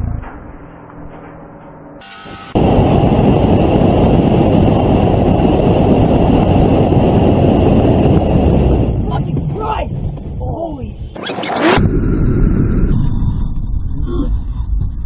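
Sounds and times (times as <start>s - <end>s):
car road noise: 0.0s - 13.3s
wind rush: 2.3s - 14.6s.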